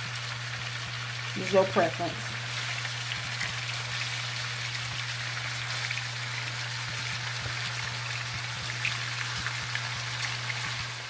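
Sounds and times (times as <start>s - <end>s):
chicken sizzling in a pan: 0.0s - 11.0s
steady low hum: 0.0s - 11.0s.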